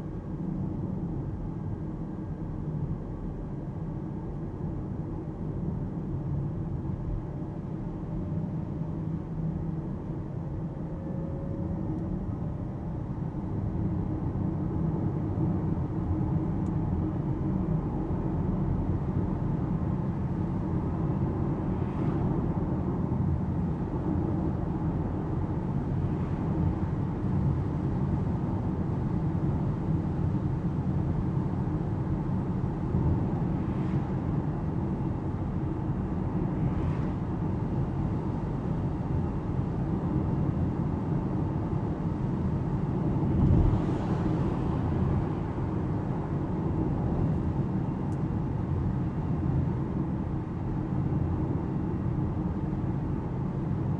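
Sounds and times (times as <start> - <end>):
road and tyre rumble: 5.5 - 53.9.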